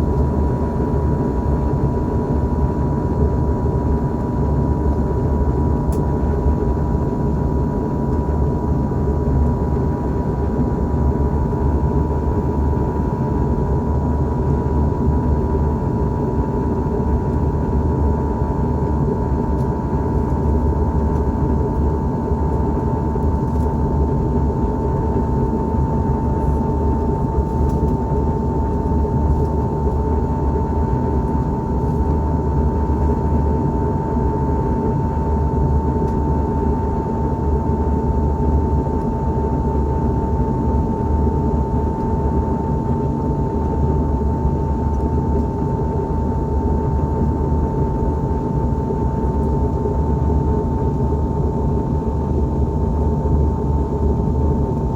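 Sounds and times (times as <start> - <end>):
low aircraft cabin rumble: 0.0 - 54.9.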